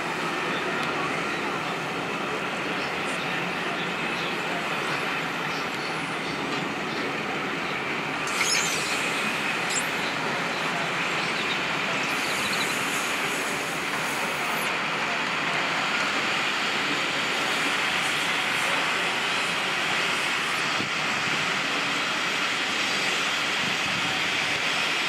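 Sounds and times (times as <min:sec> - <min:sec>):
train wheels rumbling on rail: 0:00.0 - 0:08.3, 0:08.9 - 0:25.0.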